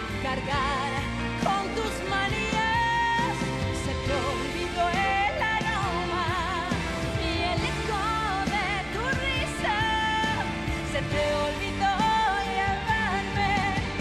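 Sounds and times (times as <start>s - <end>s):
woman singing into a microphone: 0.0s - 14.0s.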